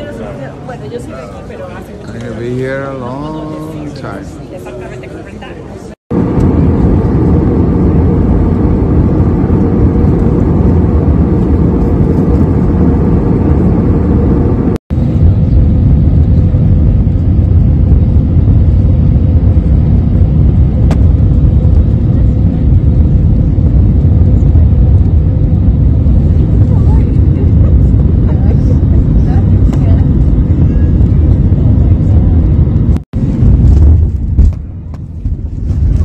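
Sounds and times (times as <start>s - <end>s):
jet cabin engine and airflow rush: 0.0s - 36.0s.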